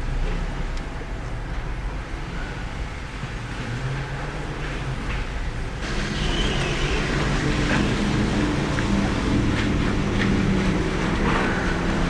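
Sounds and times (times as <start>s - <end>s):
car wash low rumble: 0.0s - 12.0s
car wash rushing noise: 0.0s - 12.0s.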